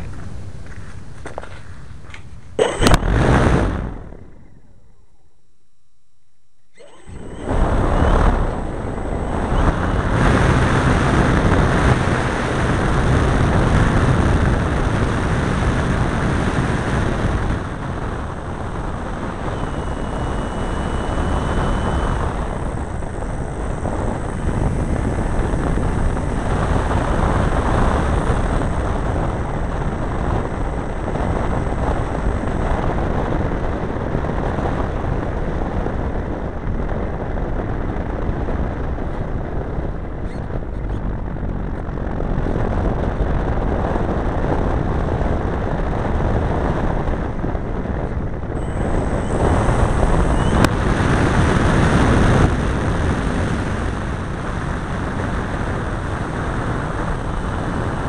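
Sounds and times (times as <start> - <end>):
model airplane engine and propeller: 0.0 - 5.2, 6.8 - 58.0
wind rush over microphone: 2.6 - 5.0, 6.8 - 58.0.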